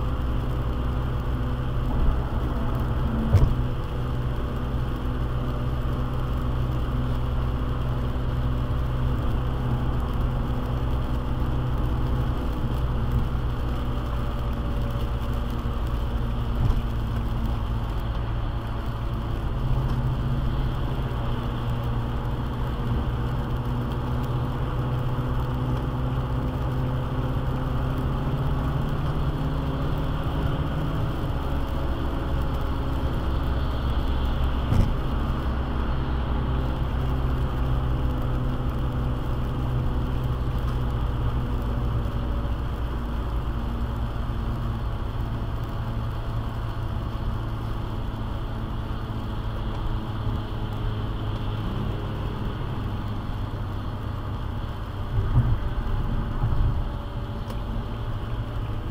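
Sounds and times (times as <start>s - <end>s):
car road noise drone: 0.0s - 58.9s
tyres hissing on wet pavement: 0.0s - 58.9s.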